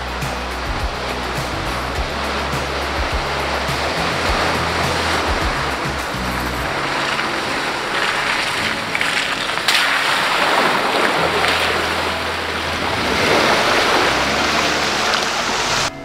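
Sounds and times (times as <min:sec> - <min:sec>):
low engine hum: 0:00.0 - 0:16.0
tyres splashing through mud: 0:00.0 - 0:16.0.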